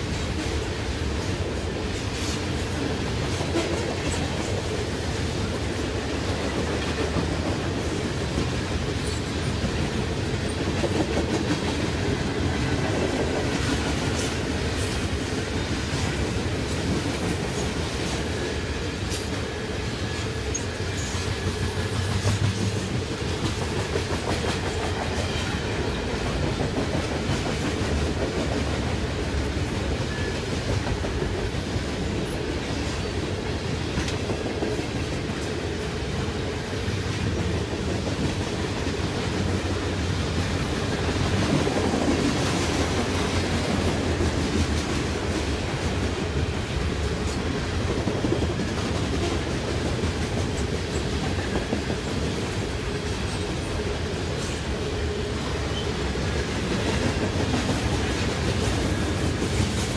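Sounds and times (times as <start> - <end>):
freight train wheels on rails: 0.0 - 59.9.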